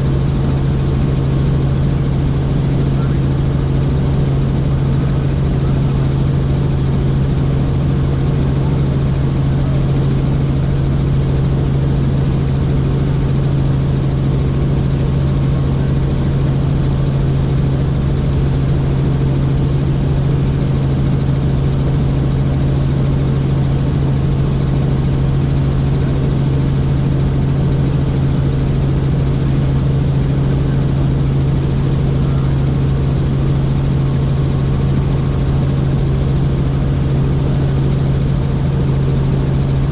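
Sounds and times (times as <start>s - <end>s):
helicopter drone from inside cabin: 0.0s - 39.9s.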